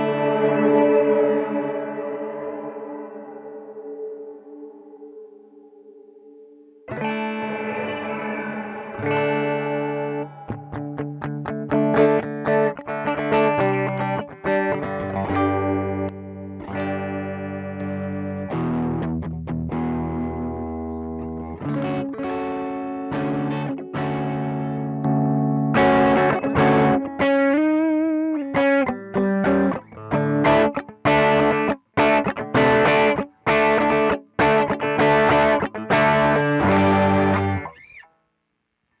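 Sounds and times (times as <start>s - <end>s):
electric guitar with effects: 0.0s - 38.1s.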